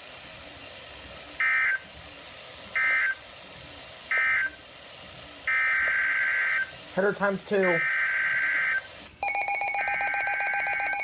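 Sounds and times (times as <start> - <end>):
steady background hiss: 0.0 - 9.2.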